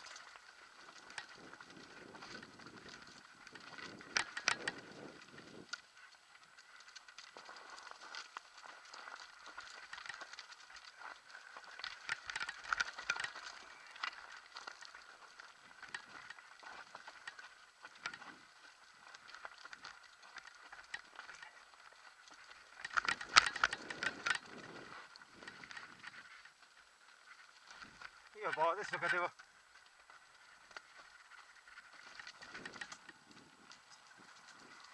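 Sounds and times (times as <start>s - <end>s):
bike rattling over loose stones: 0.0s - 34.9s.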